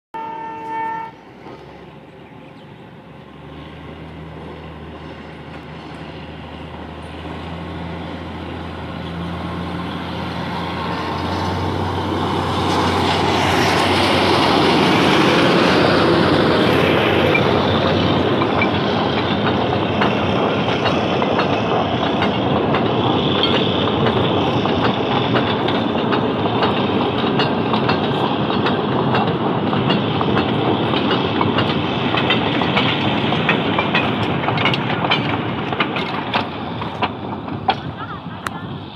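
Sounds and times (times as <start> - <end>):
locomotive engine hum: 0.2 - 38.9
train wagons rumbling: 0.2 - 38.9
wheels clacking on rail joints: 3.1 - 38.8.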